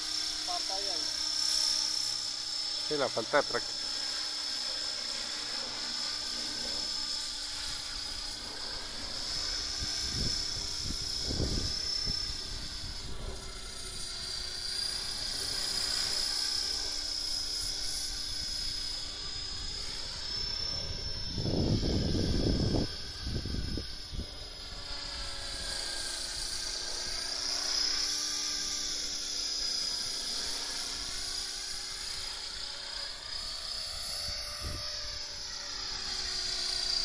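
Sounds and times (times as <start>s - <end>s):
rc helicopter motor whine: 0.0s - 37.0s
rotor blades whirring: 0.0s - 37.0s.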